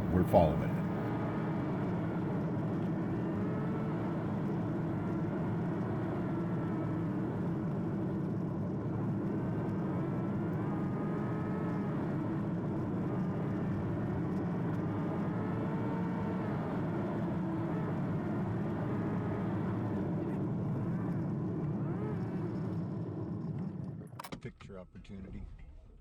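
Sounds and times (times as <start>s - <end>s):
road and tyre rumble: 0.0s - 24.2s.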